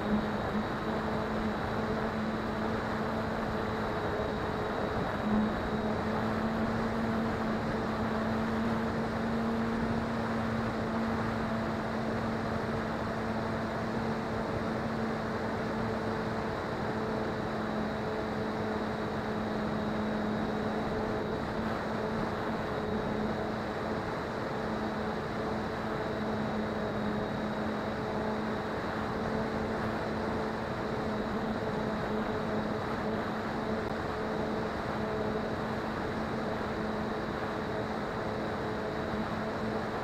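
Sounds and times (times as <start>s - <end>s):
model plane motor humming: 0.0s - 40.0s.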